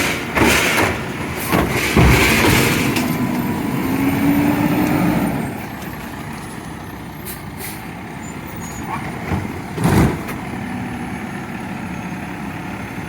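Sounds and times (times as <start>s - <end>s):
garbage truck mechanical noise: 0.0s - 13.0s.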